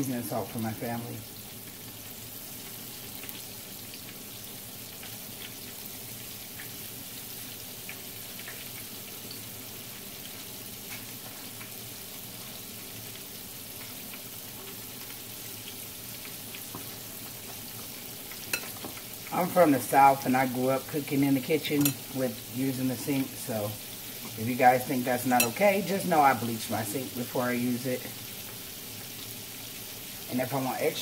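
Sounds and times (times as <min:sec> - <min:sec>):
chicken frying in hot oil: 0:00.0 - 0:31.0
oil popping and crackling: 0:00.0 - 0:31.0.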